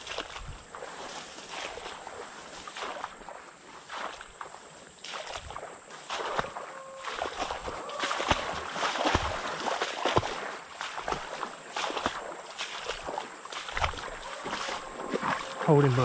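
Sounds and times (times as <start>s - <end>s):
footsteps wading through mud: 0.0s - 16.0s.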